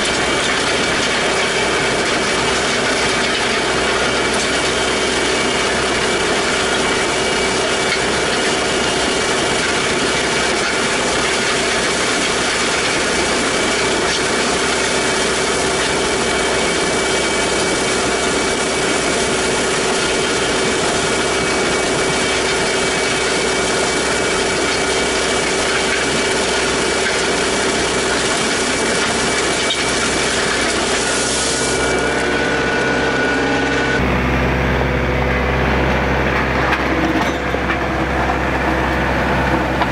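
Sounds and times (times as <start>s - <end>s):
land plane scraping gravel: 0.0s - 34.1s
tractor diesel engine running: 0.0s - 39.9s.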